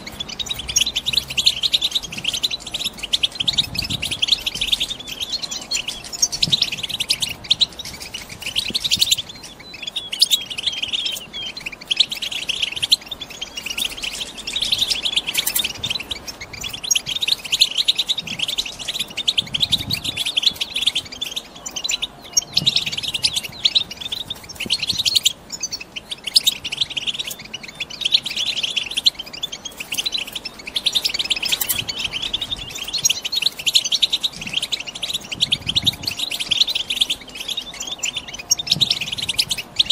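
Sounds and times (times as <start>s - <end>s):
goldfinches twittering: 0.0s - 39.9s.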